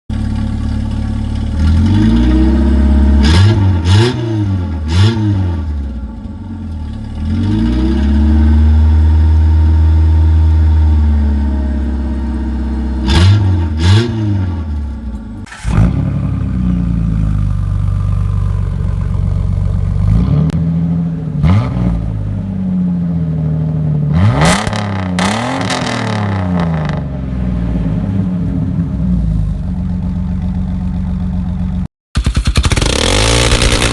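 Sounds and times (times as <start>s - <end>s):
engine idling with rev blips: 0.1s - 33.9s
car engine revving: 0.3s - 33.9s.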